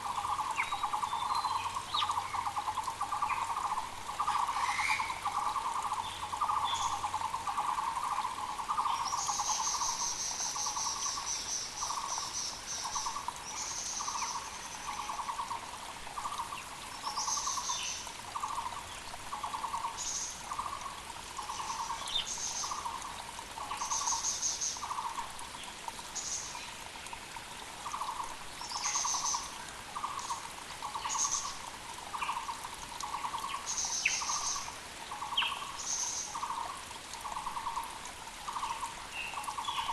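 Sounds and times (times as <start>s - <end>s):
faint creek: 0.0s - 39.9s.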